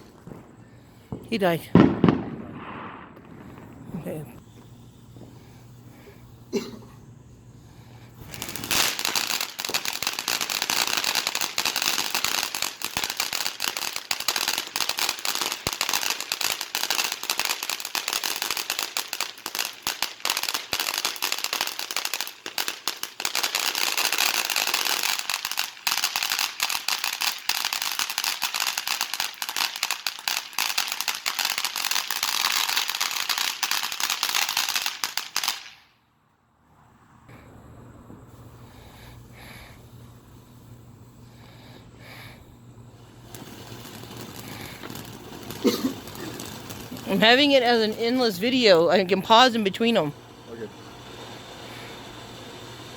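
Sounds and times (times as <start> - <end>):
fireworks crackling and popping: 0.0 - 52.9.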